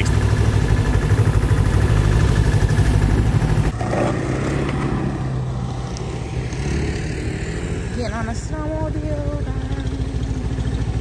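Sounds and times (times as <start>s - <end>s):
snowmobile engine idling: 0.0s - 11.0s
snowmobiles running: 0.0s - 11.0s.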